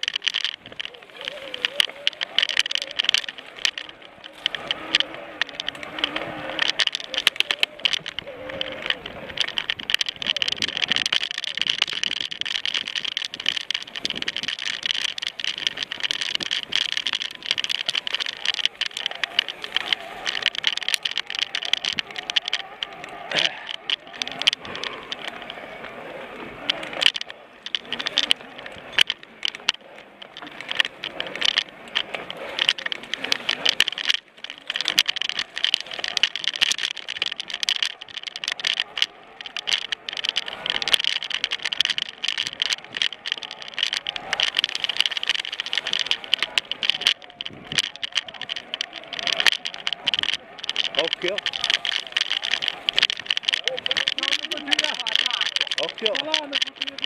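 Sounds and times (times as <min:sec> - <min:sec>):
mountain bike rattling: 0:00.0 - 0:57.0.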